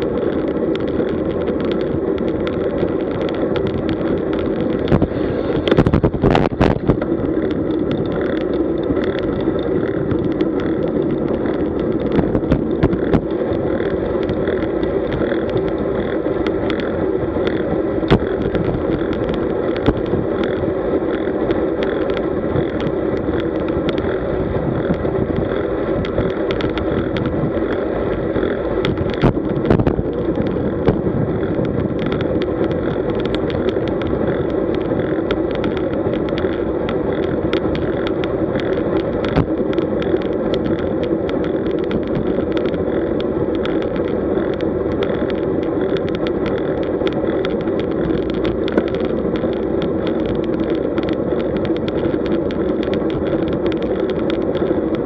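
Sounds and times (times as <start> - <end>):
bike tyre noise on asphalt: 0.0 - 55.0
small clicks: 0.0 - 55.0
wind rushing over microphone: 0.0 - 55.0.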